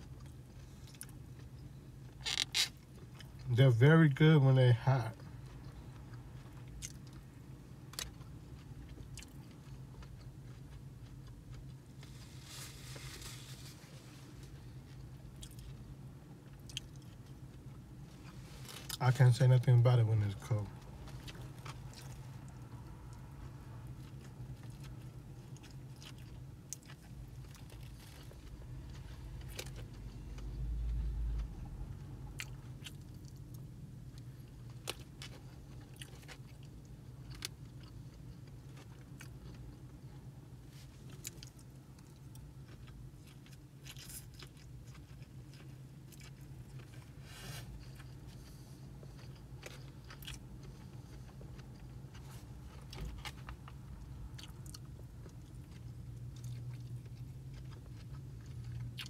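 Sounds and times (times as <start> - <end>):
man chewing: 5.4 - 7.2, 7.9 - 13.7, 14.7 - 15.8, 16.4 - 19.0, 21.0 - 31.5, 32.4 - 40.3, 41.1 - 59.0.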